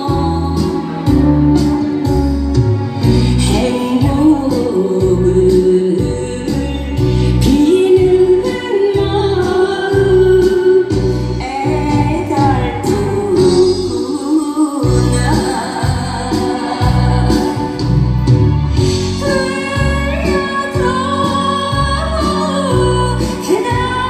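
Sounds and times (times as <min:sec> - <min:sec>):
woman singing into microphone: 0:00.0 - 0:01.7, 0:03.1 - 0:24.0.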